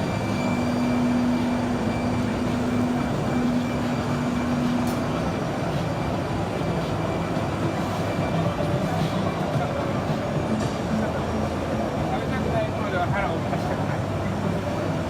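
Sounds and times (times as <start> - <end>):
exhibition hall din: 0.0 - 15.0
machine hum: 0.0 - 15.0.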